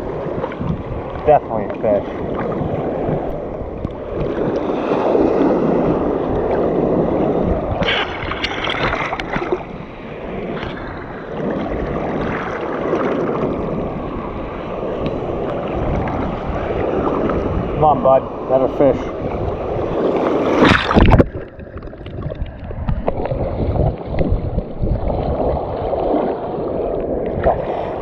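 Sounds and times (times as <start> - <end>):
seawater sloshing and splashing: 0.0 - 28.0.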